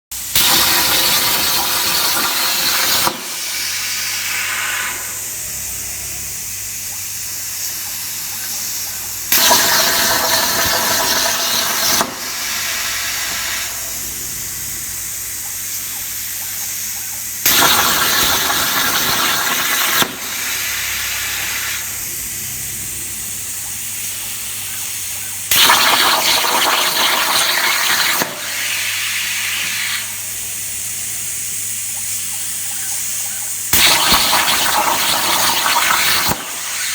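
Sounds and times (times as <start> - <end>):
plasma arc cutting rush: 0.2 - 36.9
plasma cutter air hiss: 0.2 - 36.9.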